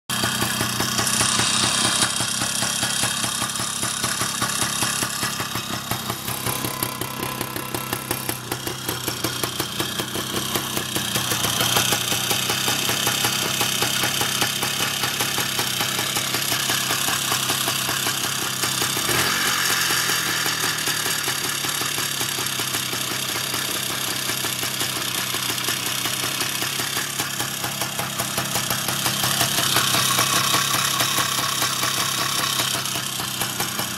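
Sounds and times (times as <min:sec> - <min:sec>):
rapid regular engine knock: 0:00.1 - 0:33.9
two-stroke motorcycle engine idling: 0:00.1 - 0:33.9.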